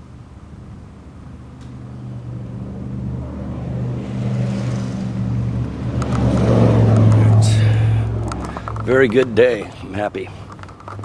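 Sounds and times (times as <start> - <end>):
vehicle engine approaching: 0.0 - 11.0.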